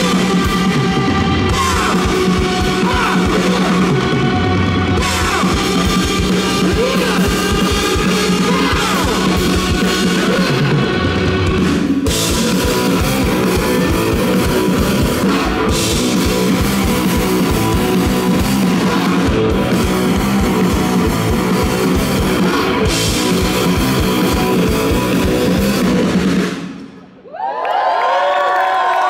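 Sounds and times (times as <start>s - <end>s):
fast driving drumbeat: 0.0s - 26.8s
electric guitars: 0.0s - 26.9s.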